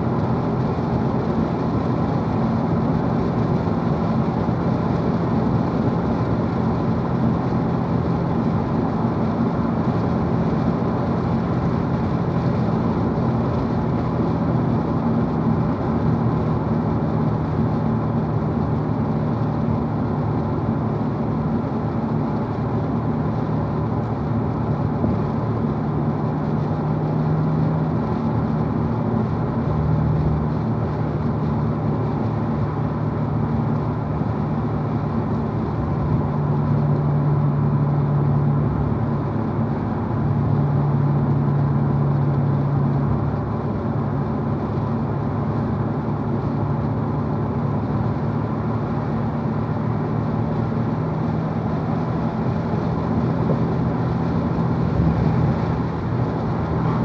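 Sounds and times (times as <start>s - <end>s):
low engine drone: 0.0s - 57.0s
tyre and road noise: 0.0s - 57.0s.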